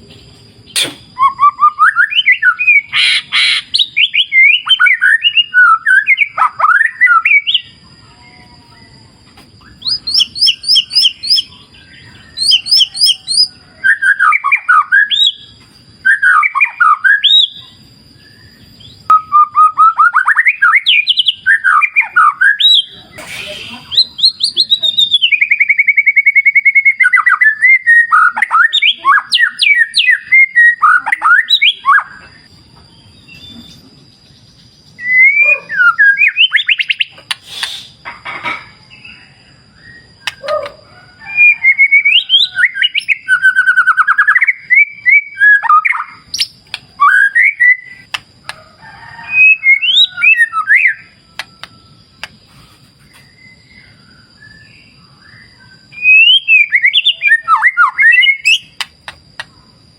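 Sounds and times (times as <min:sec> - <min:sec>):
bird singing whistles and trills: 0:00.6 - 0:38.0, 0:38.9 - 0:48.2, 0:49.0 - 0:59.7.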